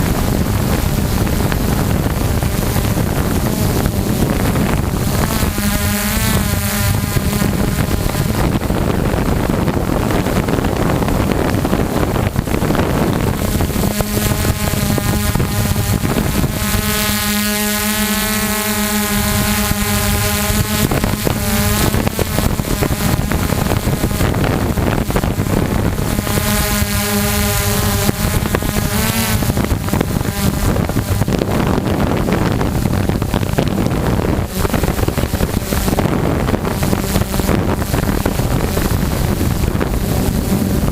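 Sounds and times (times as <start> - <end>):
drone motors buzzing: 0.0 - 40.9
wind on microphone: 0.0 - 40.9.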